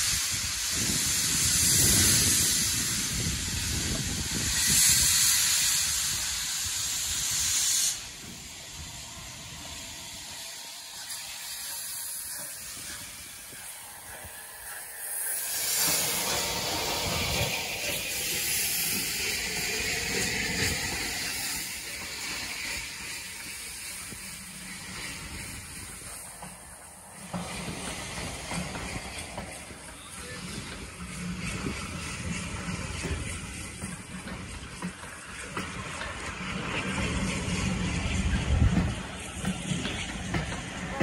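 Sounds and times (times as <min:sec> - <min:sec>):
steam locomotive hissing: 0:00.0 - 0:41.0
train coaches rolling past: 0:00.0 - 0:41.0.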